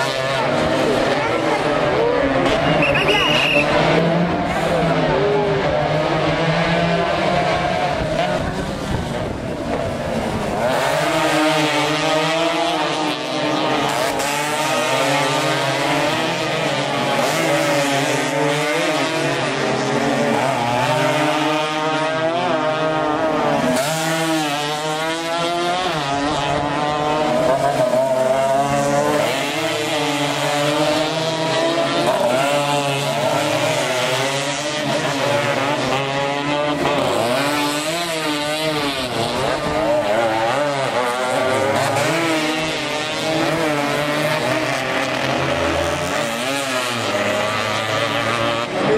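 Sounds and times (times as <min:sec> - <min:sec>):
racing motorcycles revving: 0:00.0 - 0:48.9.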